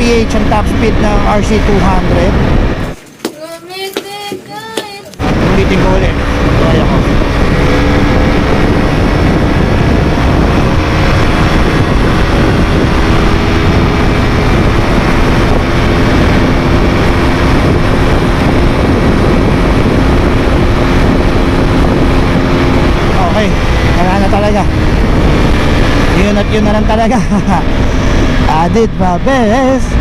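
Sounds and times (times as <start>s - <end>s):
motorcycle engine at full throttle: 0.0s - 3.0s, 5.2s - 30.0s
wind rush: 0.0s - 3.0s, 5.2s - 30.0s.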